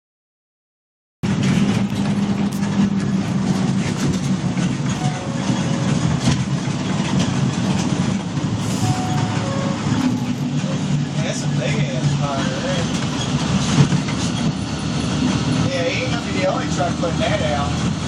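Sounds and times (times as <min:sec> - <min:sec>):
diesel engine humming: 0:01.2 - 0:18.0.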